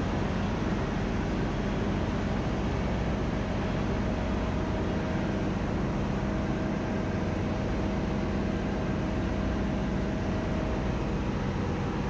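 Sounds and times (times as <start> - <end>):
engine room machinery: 0.0 - 12.0
faint hum and whine: 0.0 - 12.0.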